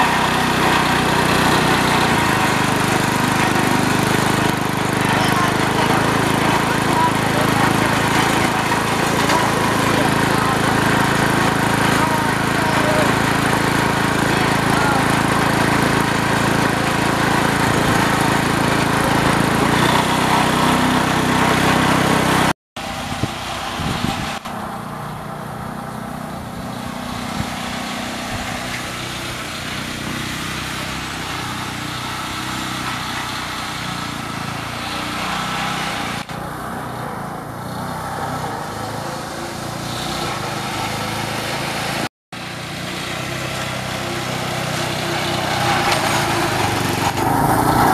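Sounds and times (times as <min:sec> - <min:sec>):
garden tractor engine running: 0:00.0 - 0:47.9.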